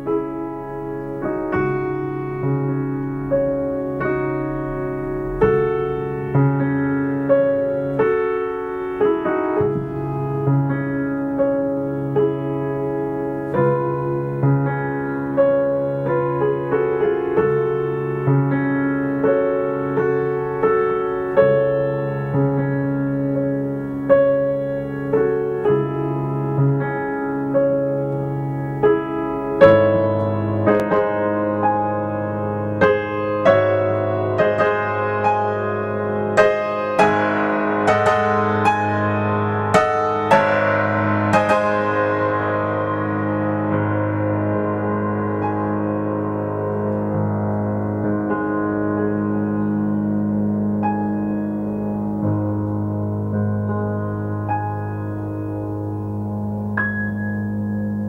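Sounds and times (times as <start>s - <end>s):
slow piano music: 0.0s - 58.0s.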